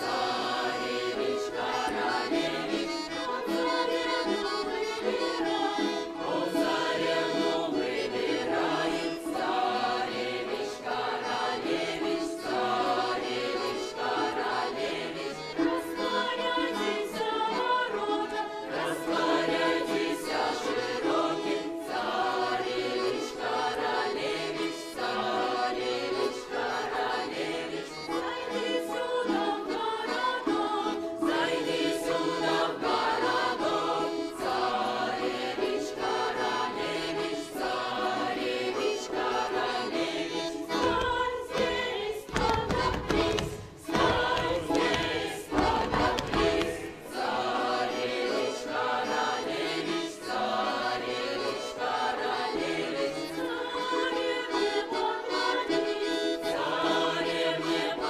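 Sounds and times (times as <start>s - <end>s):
choir singing folk song: 0.0s - 58.0s.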